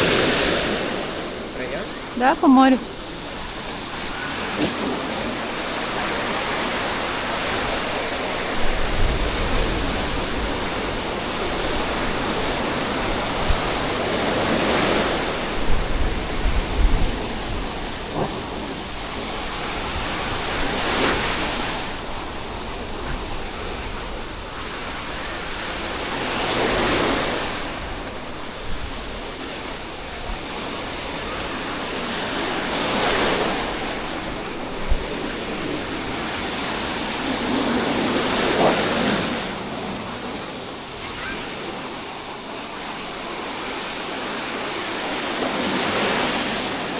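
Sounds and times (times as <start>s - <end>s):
wind buffeting microphone: 0.0s - 41.0s
sea surf washing on shore: 0.0s - 46.9s.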